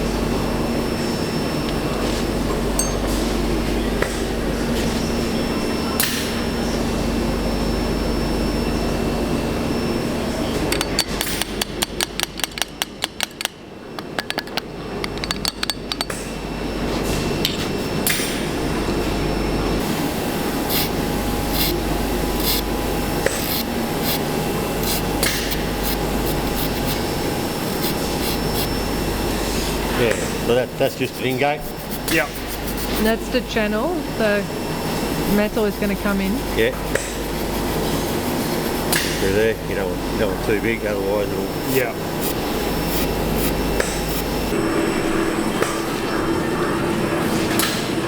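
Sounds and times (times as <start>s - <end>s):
workshop hum: 0.0s - 48.0s.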